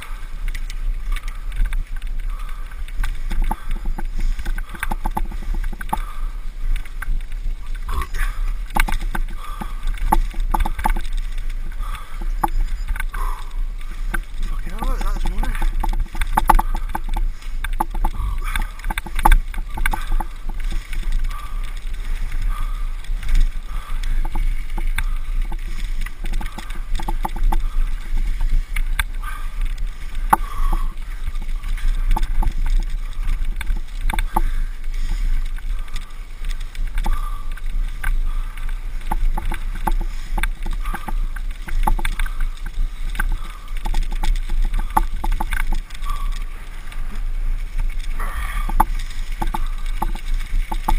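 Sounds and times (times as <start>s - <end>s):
bicycle rattling over bumps: 0.0s - 50.9s.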